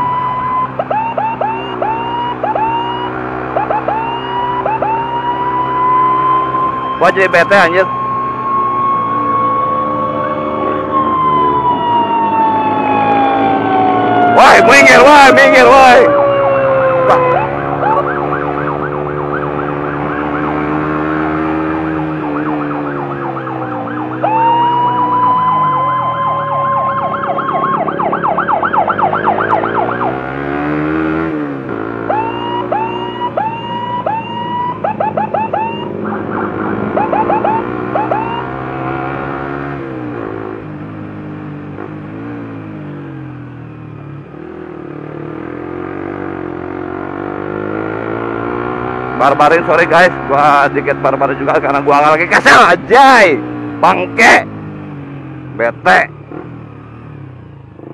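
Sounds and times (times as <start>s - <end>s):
emergency sirens: 0.0s - 57.9s
motorcycle engine revving: 0.0s - 57.9s.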